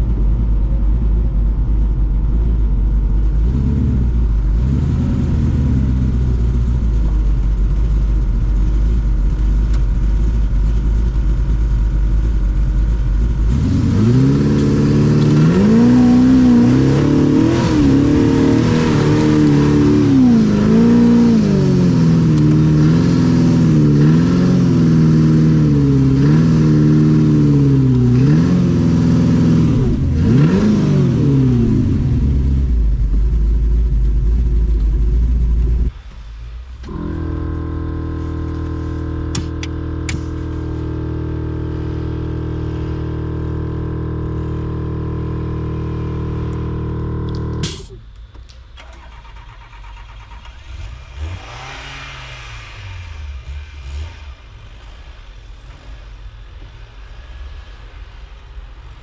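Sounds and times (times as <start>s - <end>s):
engine idling and revving: 0.0s - 59.0s.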